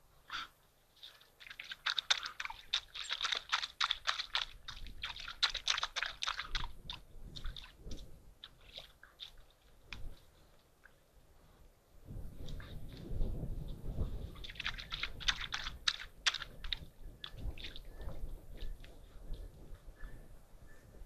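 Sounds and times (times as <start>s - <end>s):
wild dogs crunching while feeding: 0.3s - 11.1s, 12.3s - 20.0s.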